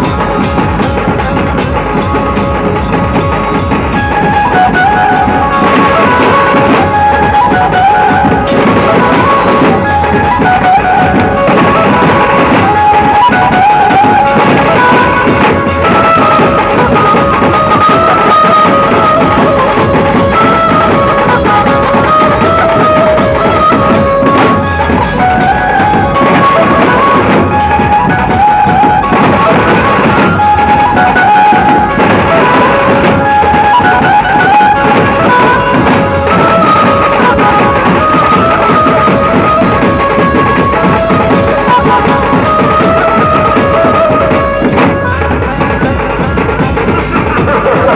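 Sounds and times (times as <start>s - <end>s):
band melody: 0.0s - 47.9s
steady drumming: 0.0s - 47.9s.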